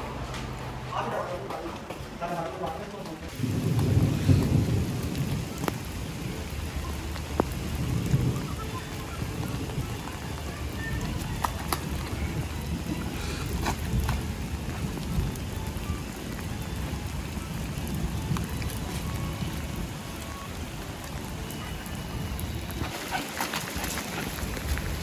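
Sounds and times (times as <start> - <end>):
heavy rain on pavement: 0.0 - 25.0
drops ticking and splashing: 3.3 - 25.0.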